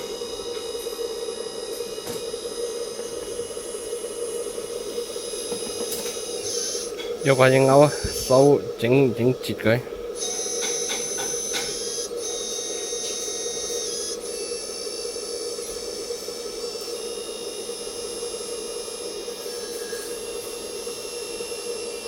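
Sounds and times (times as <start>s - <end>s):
electric hydraulic pump buzzing: 0.0s - 22.0s.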